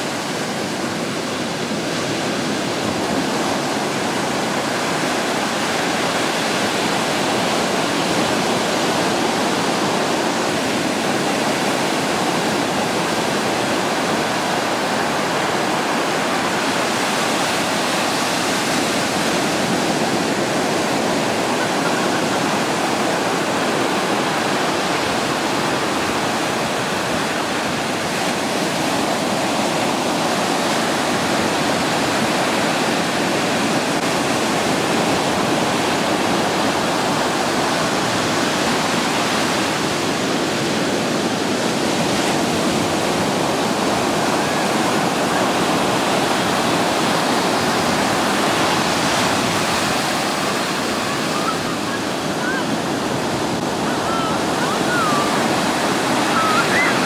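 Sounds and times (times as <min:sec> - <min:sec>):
waves washing up beach: 0:00.0 - 0:57.0.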